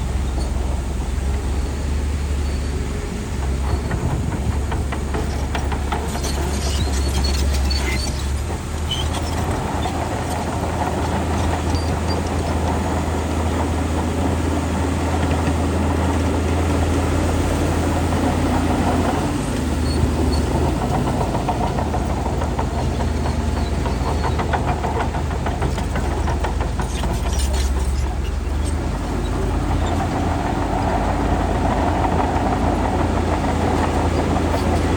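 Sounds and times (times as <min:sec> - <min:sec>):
bulldozer diesel engine droning: 0:00.0 - 0:34.9
steel tracks clanking: 0:00.0 - 0:34.9.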